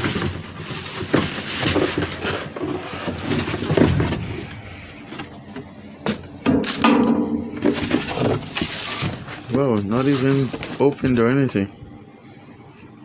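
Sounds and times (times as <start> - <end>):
rustling of bags and packaging: 0.0 - 11.7.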